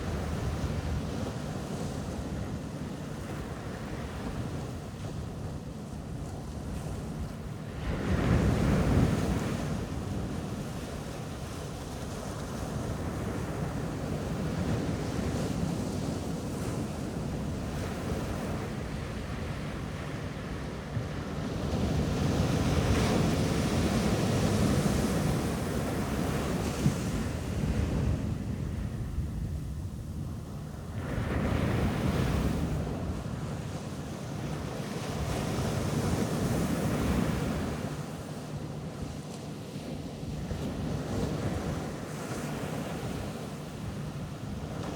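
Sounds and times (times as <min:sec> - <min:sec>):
wind rumbling on microphone: 0:00.0 - 0:38.0
ocean waves washing onto beach: 0:00.0 - 0:44.9.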